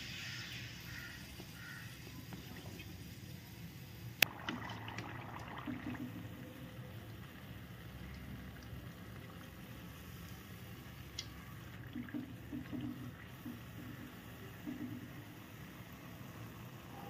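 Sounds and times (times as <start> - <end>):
oil bubbling and sizzling: 0.0 - 17.0.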